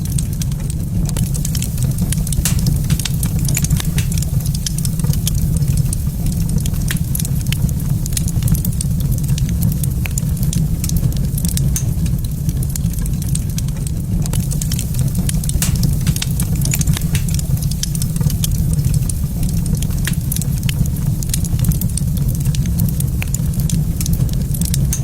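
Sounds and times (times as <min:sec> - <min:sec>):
low rumble: 0:00.0 - 0:25.0
wood fire crackling: 0:00.0 - 0:25.0.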